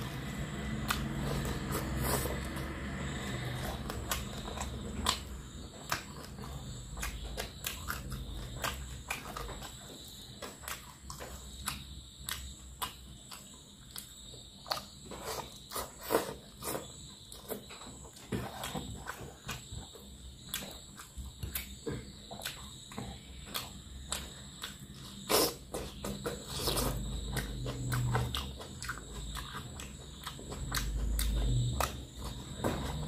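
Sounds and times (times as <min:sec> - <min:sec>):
wet chewing and lip-smacking: 0:00.1 - 0:17.8, 0:18.5 - 0:32.6.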